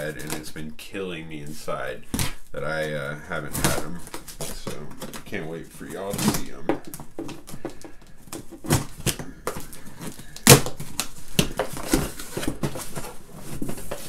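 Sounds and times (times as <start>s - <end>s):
cardboard package being opened: 2.1s - 14.0s.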